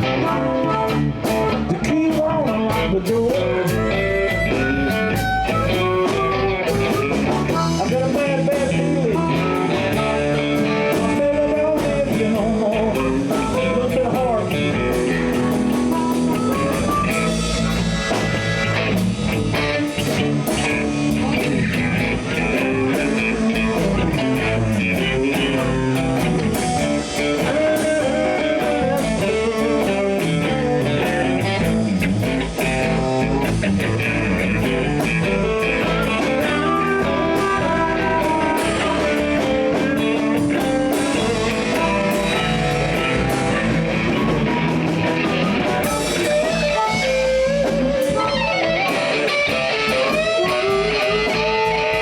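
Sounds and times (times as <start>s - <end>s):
bass guitar: 0.0s - 52.0s
drum kit: 0.0s - 52.0s
electric guitar: 0.0s - 52.0s
harmonica solo: 0.0s - 52.0s.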